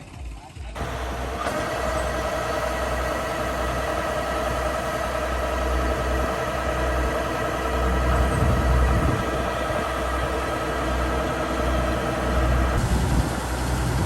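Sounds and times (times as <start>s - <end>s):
combine harvester engine rumble: 0.7s - 14.0s
machinery whine: 0.8s - 14.0s.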